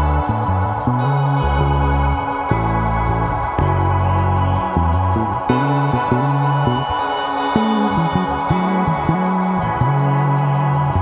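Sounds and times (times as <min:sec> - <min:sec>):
low stepping bass line: 0:00.0 - 0:11.0
synthesizer chords: 0:00.0 - 0:11.0.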